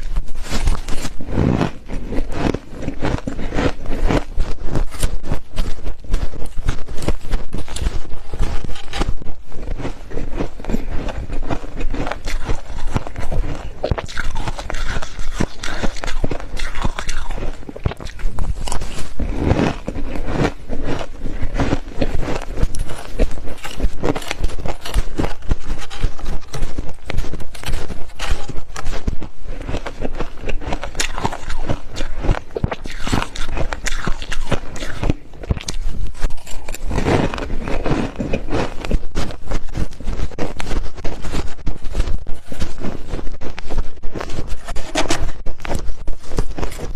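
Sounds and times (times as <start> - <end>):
frost being chewed crunching: 0.0 - 46.9.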